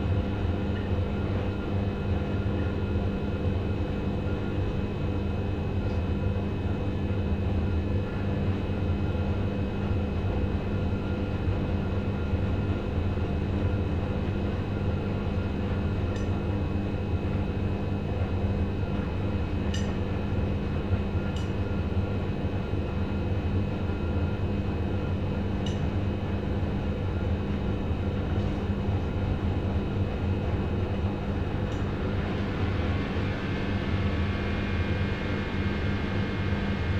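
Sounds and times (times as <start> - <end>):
washing machines running: 0.0 - 36.9.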